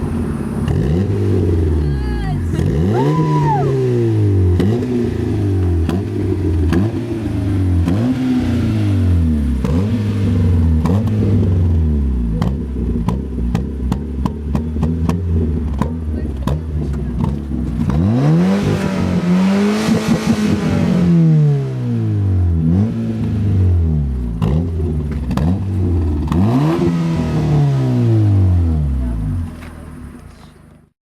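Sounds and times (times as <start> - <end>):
car engine revving: 0.0 - 30.5.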